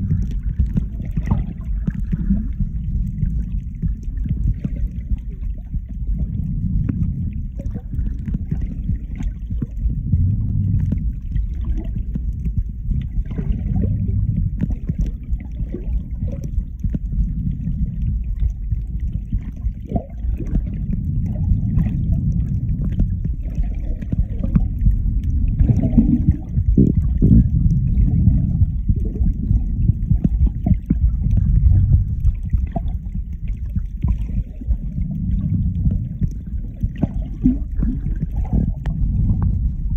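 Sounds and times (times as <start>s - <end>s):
faint clicks and crackles: 0.0s - 39.9s
underwater rumble of moving water: 0.0s - 39.9s.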